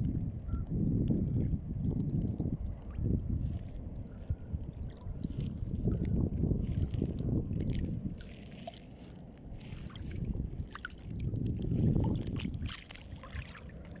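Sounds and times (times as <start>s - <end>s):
sea and wind rumbling wash: 0.0s - 14.0s.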